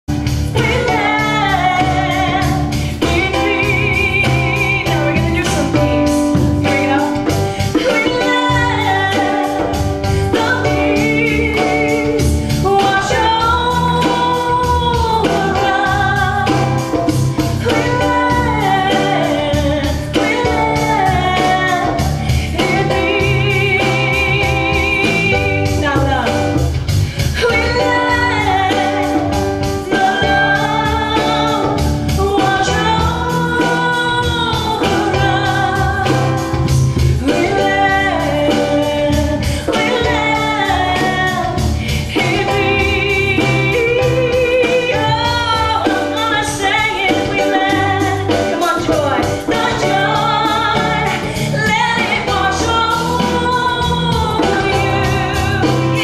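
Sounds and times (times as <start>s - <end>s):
electronic keyboard chords and bass: 0.1s - 56.0s
woman singing: 0.1s - 56.0s.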